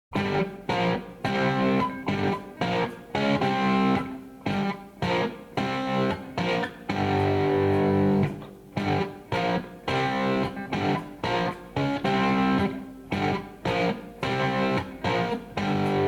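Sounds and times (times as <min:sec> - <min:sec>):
guitar background music: 0:00.1 - 0:16.0.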